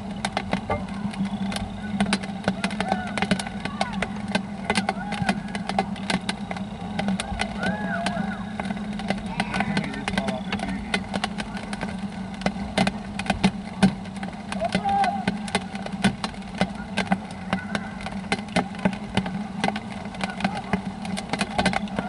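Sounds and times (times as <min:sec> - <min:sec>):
rain tapping: 0:00.0 - 0:22.0
steady low hum: 0:00.0 - 0:22.0.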